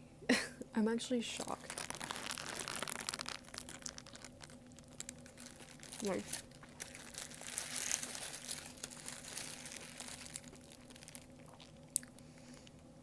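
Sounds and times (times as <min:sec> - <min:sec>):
paper packaging crinkling: 0:01.2 - 0:11.8.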